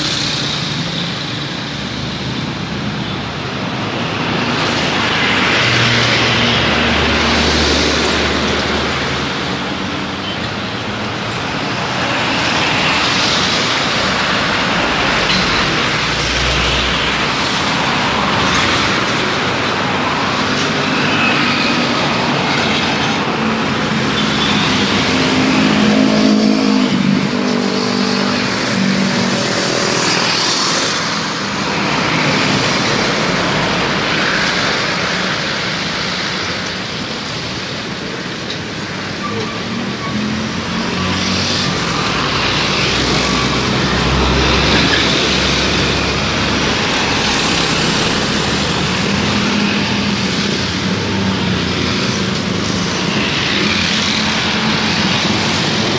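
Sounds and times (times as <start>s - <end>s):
heavy engine drone: 0.0s - 55.9s
motorcycles passing: 0.0s - 55.9s
road traffic: 0.0s - 55.9s
trucks passing: 0.0s - 55.9s.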